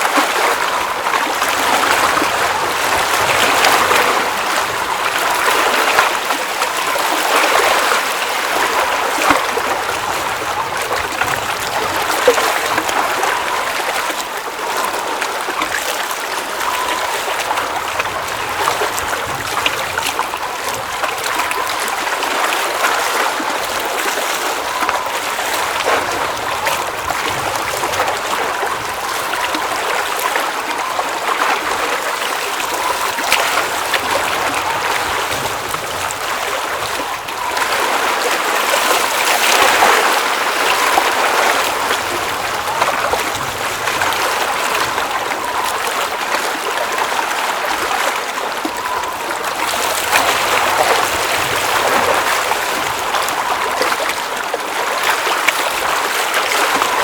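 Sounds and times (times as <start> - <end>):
small water splashes: 0.0 - 57.0
water babbling and trickling: 0.0 - 57.0.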